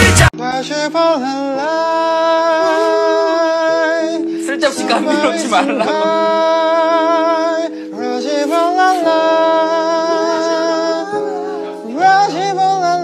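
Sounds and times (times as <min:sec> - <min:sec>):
electronic keyboard chords: 0:00.0 - 0:13.0
man singing long held notes: 0:00.0 - 0:13.0.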